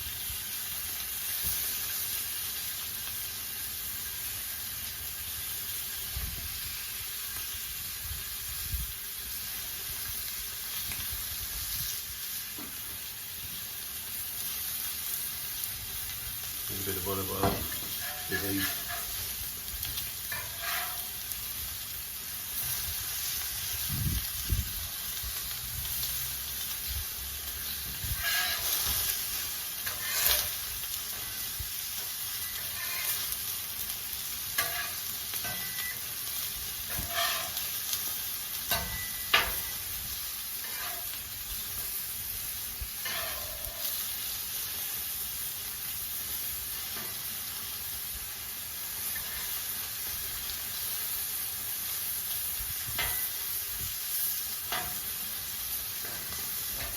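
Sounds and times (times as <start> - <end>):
food sizzling in oil: 0.0 - 56.9.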